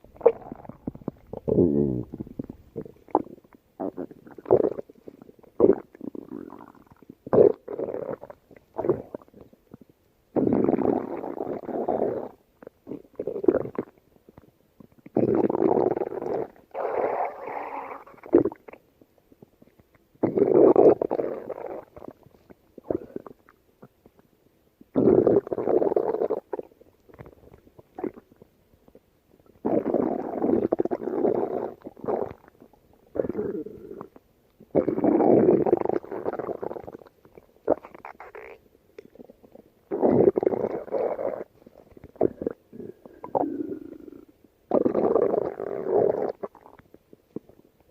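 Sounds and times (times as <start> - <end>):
stomach growling: 0.0 - 47.9
stomach gurgles and pops: 0.0 - 47.9.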